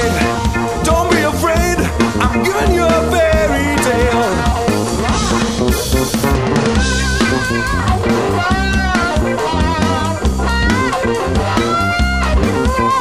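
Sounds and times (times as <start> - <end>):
blues band playing: 0.0 - 13.0
lead guitar with vibrato: 0.0 - 13.0.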